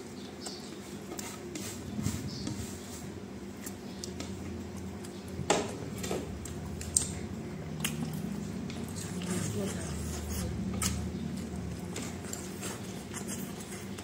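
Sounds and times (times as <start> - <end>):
man chewing food: 0.0 - 14.0
steady low hum: 0.0 - 14.0.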